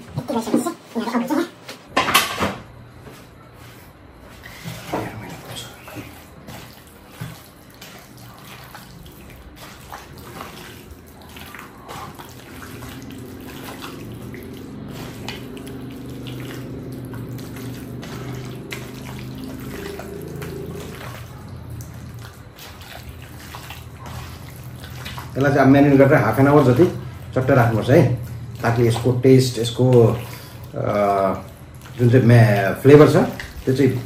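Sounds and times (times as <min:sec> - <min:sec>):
tap water running into sink: 0:05.9 - 0:34.0.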